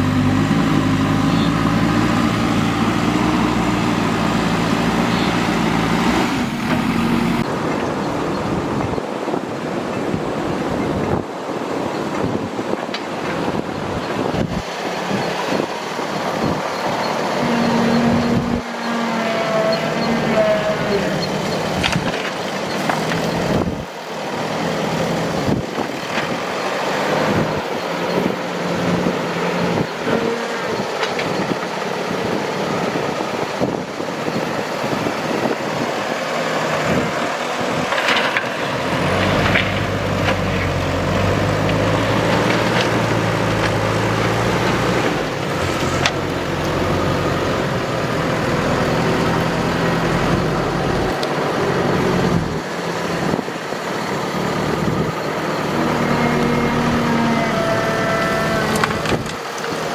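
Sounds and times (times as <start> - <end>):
diesel machinery engines running: 0.0 - 59.9.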